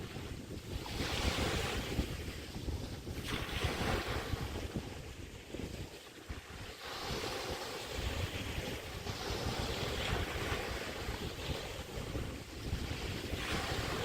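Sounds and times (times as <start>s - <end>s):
waves washing onto beach: 0.0s - 14.0s
wind buffeting microphone: 0.0s - 14.0s.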